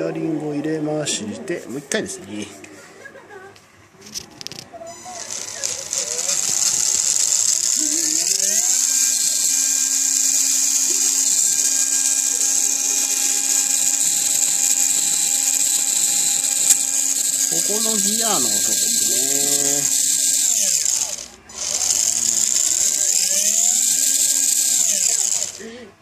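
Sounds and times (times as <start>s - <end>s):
electric motor gearbox whining: 4.5s - 25.9s.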